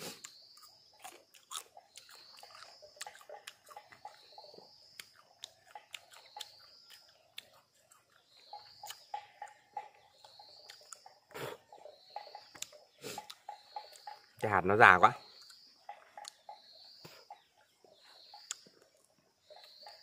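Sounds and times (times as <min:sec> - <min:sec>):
person chewing firm fruit: 0:00.0 - 0:20.0.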